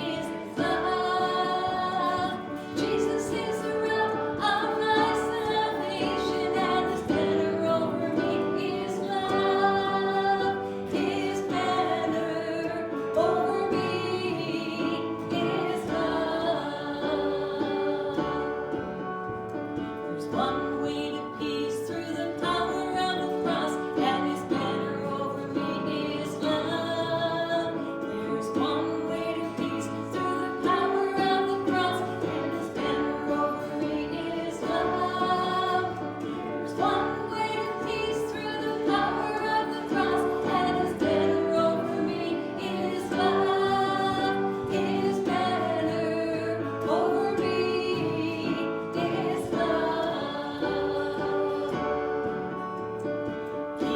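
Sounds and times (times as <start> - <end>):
congregation singing a hymn: 0.0 - 53.9.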